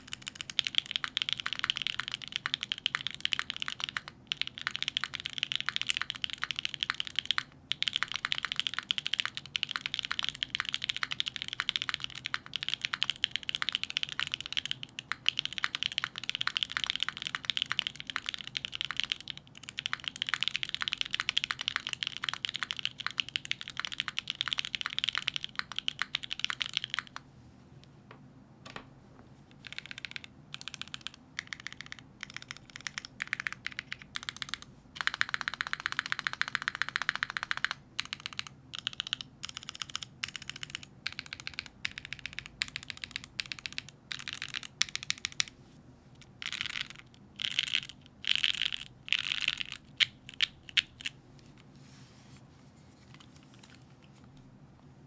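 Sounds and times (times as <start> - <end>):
mechanical keyboard typing: 0.0 - 27.2, 29.6 - 45.5, 46.4 - 51.1.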